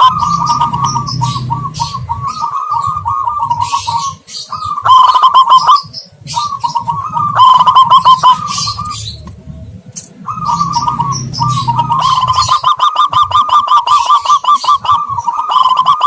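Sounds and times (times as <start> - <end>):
doves cooing: 0.0 - 16.0
small birds chirping: 0.0 - 16.0.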